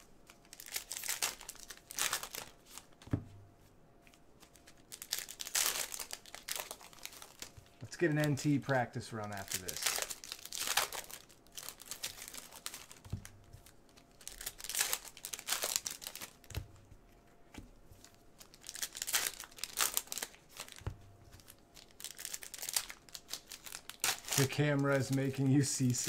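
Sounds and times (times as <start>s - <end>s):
plastic wrappers crinkling and tearing: 0.0s - 3.0s, 4.1s - 26.0s.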